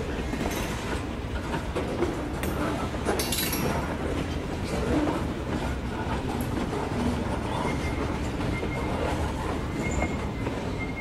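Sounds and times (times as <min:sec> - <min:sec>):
model train wheels rumbling on track: 0:00.0 - 0:11.0.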